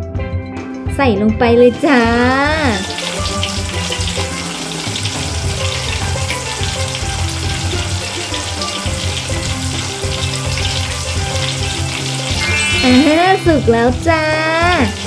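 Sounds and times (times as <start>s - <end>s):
food deep-frying in oil: 1.7s - 15.0s.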